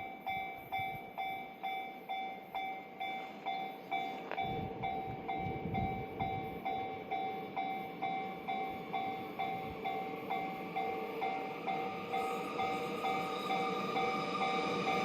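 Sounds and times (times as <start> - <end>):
level-crossing warning bell ringing: 0.0 - 15.0
train low rumble: 0.0 - 15.0.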